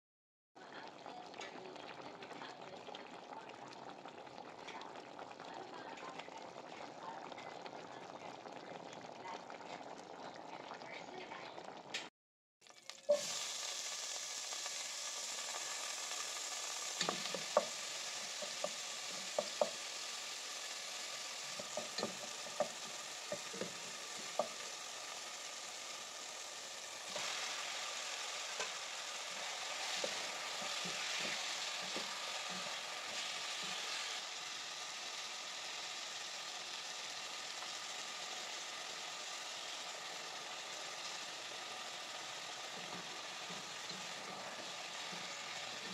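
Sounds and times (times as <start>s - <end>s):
food sizzling in hot oil: 0.6s - 45.9s.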